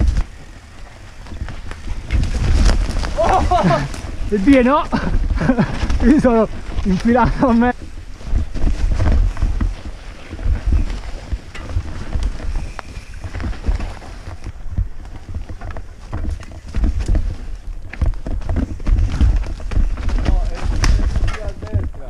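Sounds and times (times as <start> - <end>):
bike knocking and rattling: 0.0 - 22.0
wind rumble on microphone: 0.0 - 22.0.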